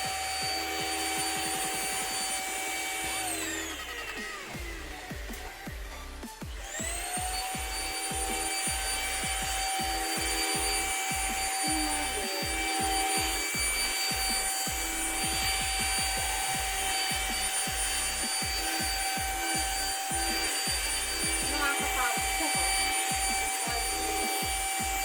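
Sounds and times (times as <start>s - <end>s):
handheld vacuum motor whine: 0.0s - 25.0s.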